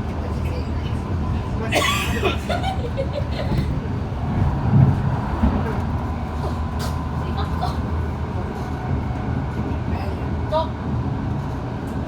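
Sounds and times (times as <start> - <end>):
light rail car rumbling: 0.0 - 12.0.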